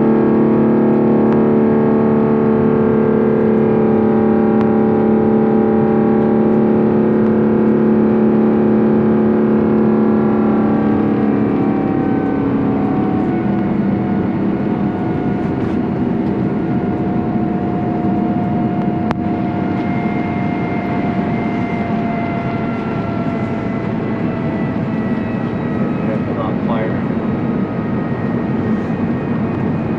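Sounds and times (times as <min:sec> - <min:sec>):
jet engine drone in cabin: 0:00.0 - 0:29.9.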